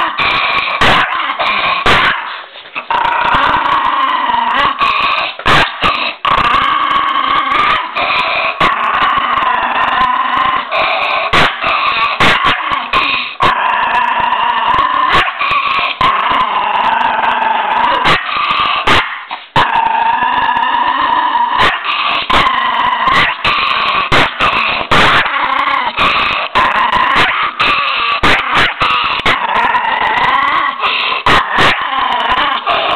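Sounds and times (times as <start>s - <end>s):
dog growling: 0.0s - 32.9s.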